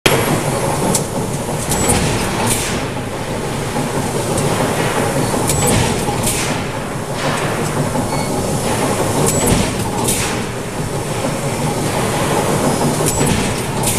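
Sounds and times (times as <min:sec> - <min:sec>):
forging press machinery din: 0:00.1 - 0:13.9.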